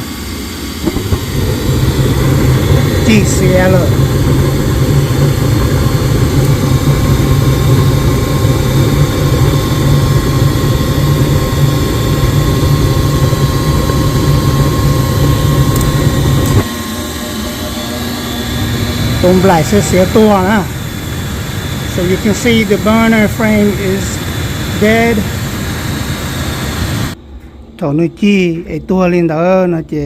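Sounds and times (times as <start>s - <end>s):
gas furnace burners rumbling: 0.0s - 27.4s
faint hum: 0.0s - 30.0s.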